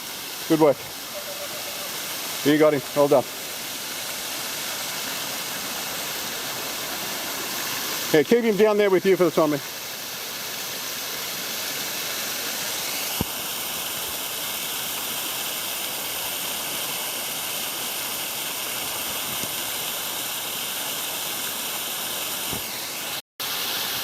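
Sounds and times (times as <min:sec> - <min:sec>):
water running over rocks: 0:00.0 - 0:24.0.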